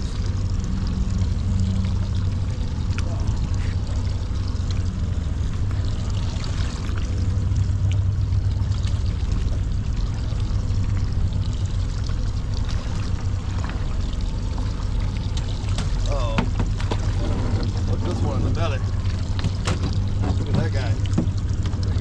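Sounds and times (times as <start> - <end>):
steady low hum: 0.0 - 22.0
water splashing alongside boat: 0.0 - 22.0.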